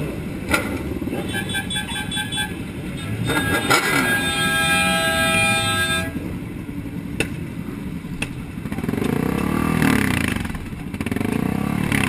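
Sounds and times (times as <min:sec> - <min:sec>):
motorcycle engine revving: 0:00.0 - 0:07.4, 0:08.2 - 0:12.0
motorcycle engines idling: 0:00.0 - 0:12.0.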